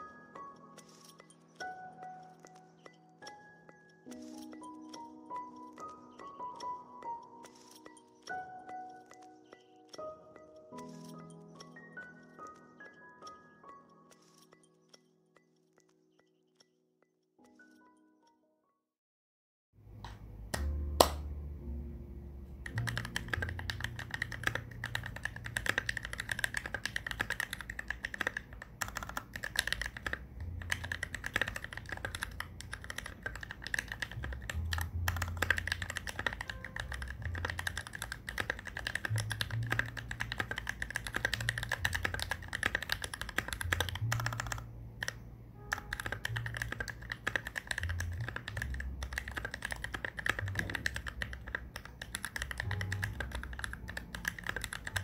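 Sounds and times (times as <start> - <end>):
mechanical keyboard typing: 0.0 - 16.7, 22.6 - 55.0.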